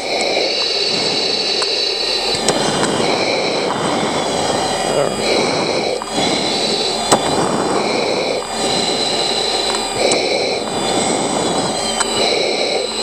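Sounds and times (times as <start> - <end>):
jet engine and airflow rush: 0.0 - 13.0.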